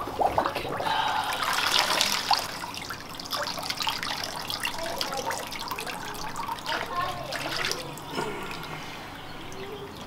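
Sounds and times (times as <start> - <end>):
water running off into tub: 0.0 - 10.0
water sloshing and splashing in tub: 0.0 - 10.0.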